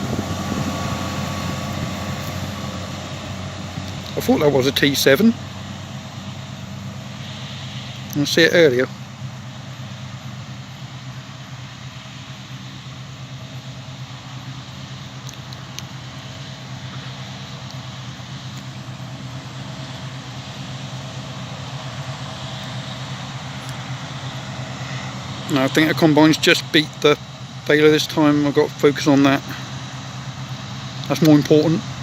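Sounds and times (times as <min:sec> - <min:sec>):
combine harvester engine drone: 0:00.0 - 0:32.0.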